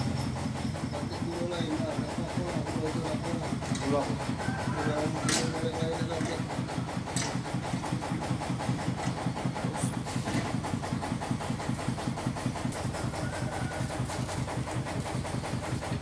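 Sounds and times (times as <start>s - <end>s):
motor grinder chugging: 0.0s - 16.0s.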